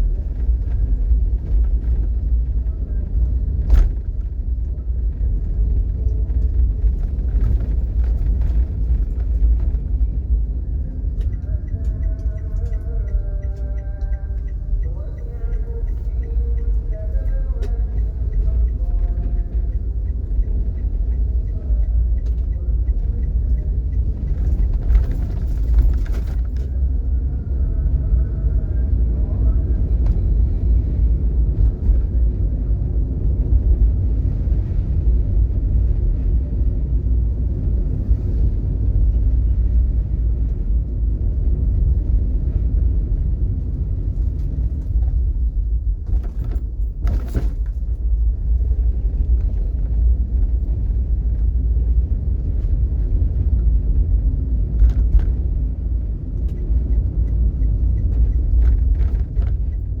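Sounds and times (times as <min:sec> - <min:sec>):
vehicle rumble in traffic: 0:00.0 - 1:00.0.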